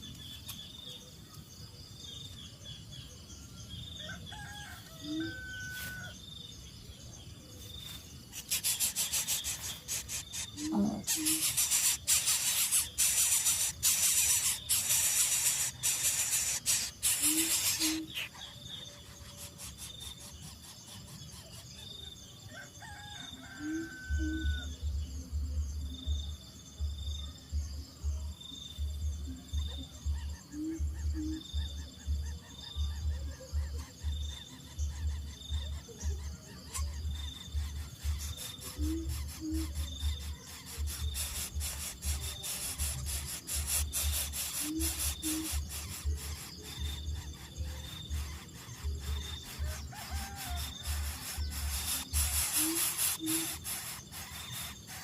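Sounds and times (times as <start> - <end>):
pulsing insect chirp: 0.0 - 55.0.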